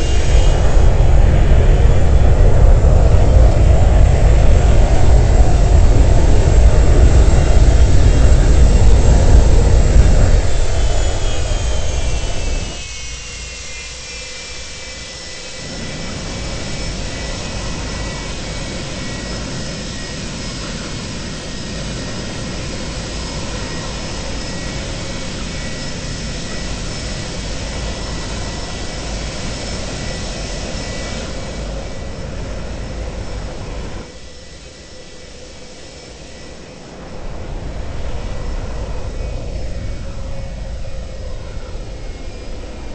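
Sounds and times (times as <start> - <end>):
jet engines spooling down: 0.0 - 42.9.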